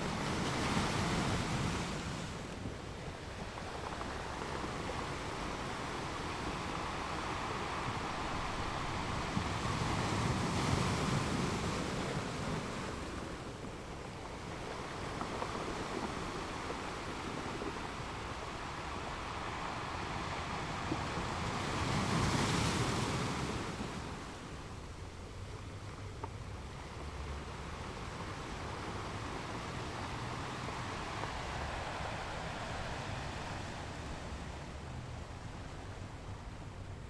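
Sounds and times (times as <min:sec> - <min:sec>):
ocean waves washing onto shore: 0:00.0 - 0:37.0.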